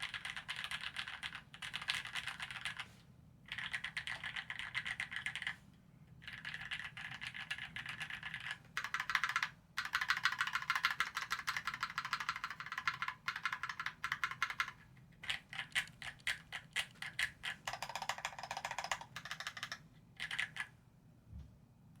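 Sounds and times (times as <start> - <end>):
mechanical keyboard typing: 0.0 - 2.9, 3.5 - 5.6, 6.2 - 20.7.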